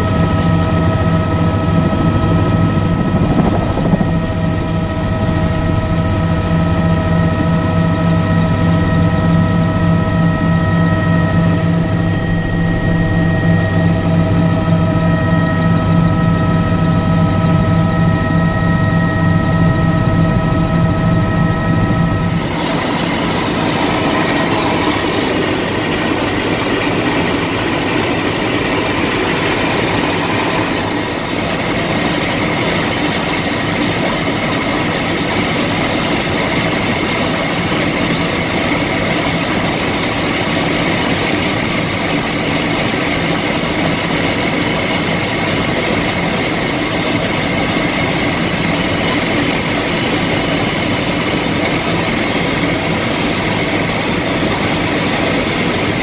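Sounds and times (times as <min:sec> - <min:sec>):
helicopter cabin rumble and whine: 0:00.0 - 0:56.0.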